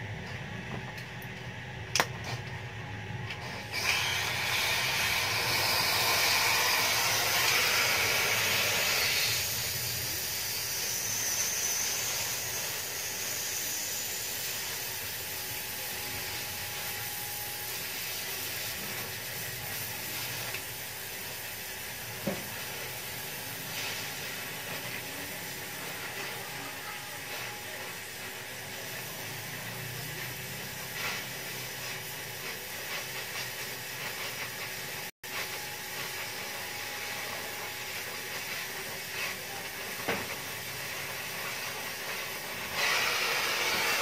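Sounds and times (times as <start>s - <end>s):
welding torch hissing: 3.3s - 44.0s.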